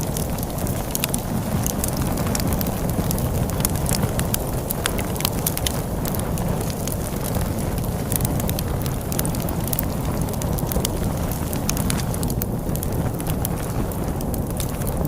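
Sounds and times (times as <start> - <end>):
storm wind rumbling: 0.0 - 15.0
wood fire crackling and popping: 0.0 - 15.0.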